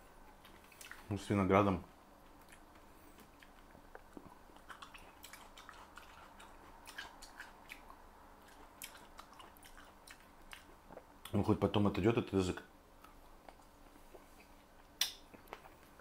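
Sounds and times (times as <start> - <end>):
quiet wet chewing: 0.2 - 1.1, 1.9 - 11.5, 13.0 - 16.0.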